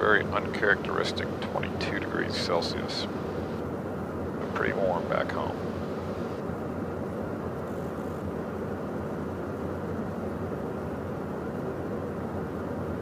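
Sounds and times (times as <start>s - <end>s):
jet cockpit cabin noise: 0.0s - 13.0s
low hum: 0.0s - 13.0s.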